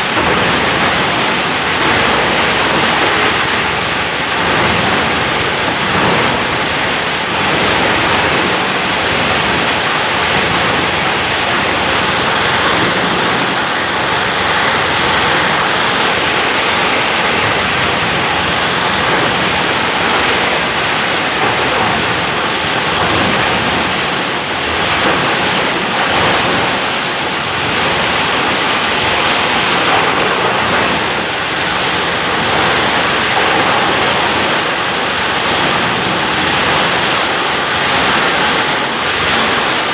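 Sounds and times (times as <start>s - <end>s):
plastic grinder rushing noise: 0.0s - 39.9s.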